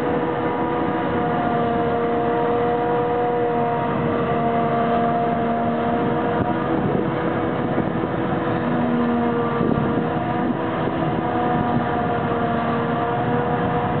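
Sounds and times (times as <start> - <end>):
forage harvester droning: 0.0 - 14.0
tractor engine: 0.0 - 14.0.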